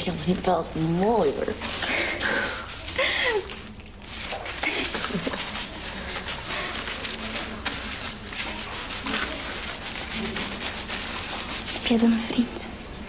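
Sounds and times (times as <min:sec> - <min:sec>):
water running and splashing: 0:00.0 - 0:12.6
faint voices: 0:01.5 - 0:13.0.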